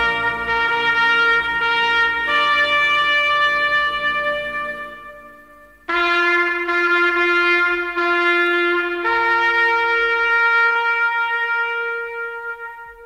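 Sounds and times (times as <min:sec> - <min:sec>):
solo trumpet holding notes: 0:00.0 - 0:13.0.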